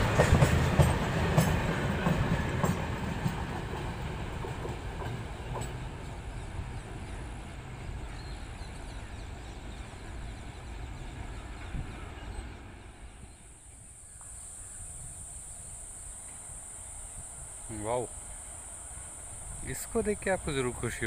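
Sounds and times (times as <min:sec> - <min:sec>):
crickets droning: 0:00.0 - 0:21.0
train wheel rumble: 0:00.0 - 0:21.0.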